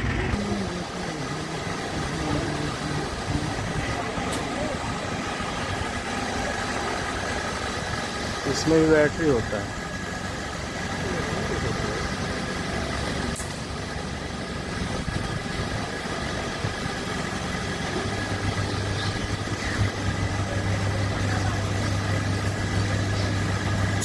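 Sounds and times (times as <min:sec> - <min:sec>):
locomotive machinery humming: 0:00.0 - 0:24.0.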